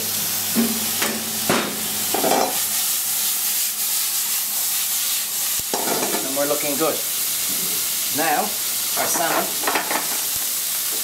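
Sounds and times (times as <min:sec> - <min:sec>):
stir fry sizzling in wok: 0:00.0 - 0:11.0.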